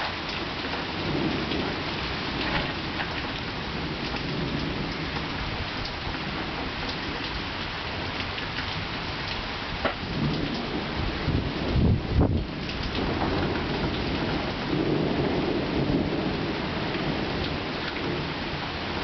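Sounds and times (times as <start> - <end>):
heavy rain pattering: 0.0 - 19.0
low thunder rumbling: 0.0 - 19.0.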